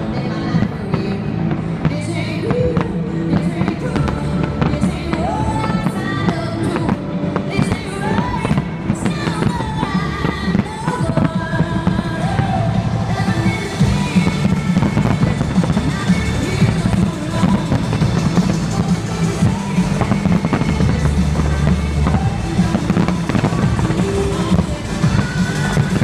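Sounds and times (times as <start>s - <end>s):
fireworks bangs and crackle: 0.0s - 26.0s
pop music with singing: 0.0s - 26.0s.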